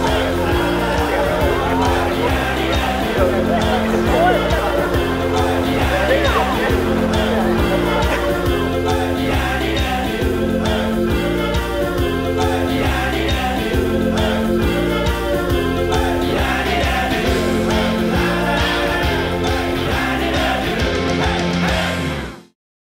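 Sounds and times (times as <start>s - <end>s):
song with singing voice: 0.0s - 22.4s.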